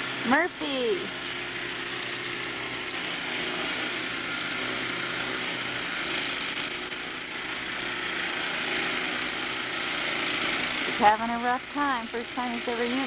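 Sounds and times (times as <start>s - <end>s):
snow blower engine running: 0.0s - 13.0s.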